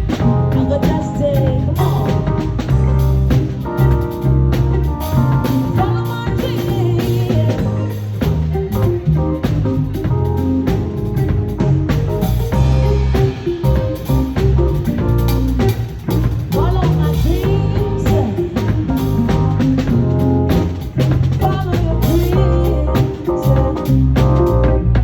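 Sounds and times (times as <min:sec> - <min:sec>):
gliding melodic lead line: 0:00.0 - 0:25.0
live band playing: 0:00.0 - 0:25.0.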